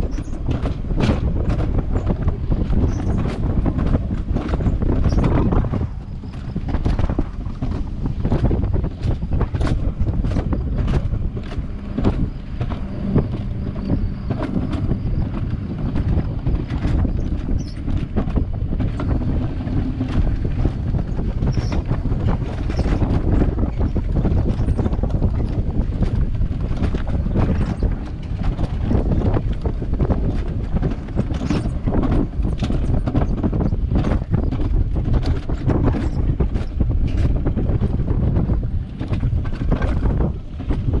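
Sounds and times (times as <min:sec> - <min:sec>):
sled wheel rumble: 0:00.0 - 0:41.0
wind buffeting microphone: 0:00.0 - 0:41.0.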